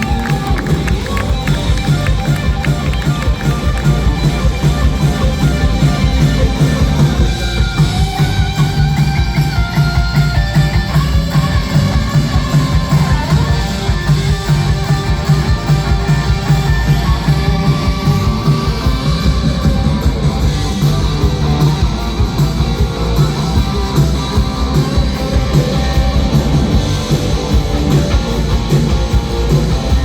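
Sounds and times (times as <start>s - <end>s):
bass: 0.0s - 30.0s
drum kit: 0.0s - 30.0s
electric guitar lead: 0.0s - 30.0s.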